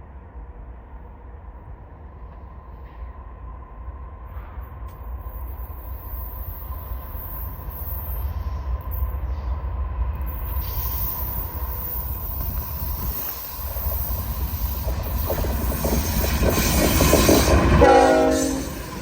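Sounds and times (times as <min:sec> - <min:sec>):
freight train cars rumbling past: 0:00.0 - 0:19.0.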